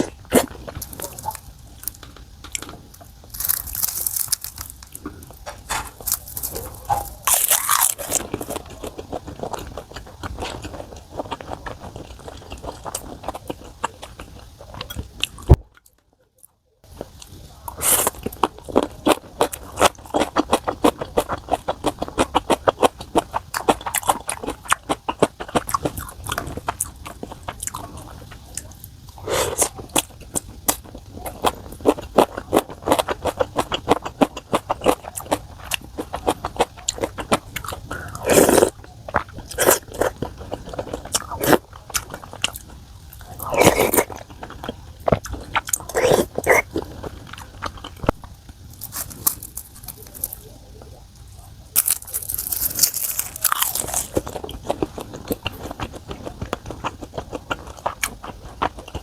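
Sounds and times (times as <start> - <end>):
person chewing: 0.0 - 15.9, 16.8 - 50.6, 51.7 - 59.0.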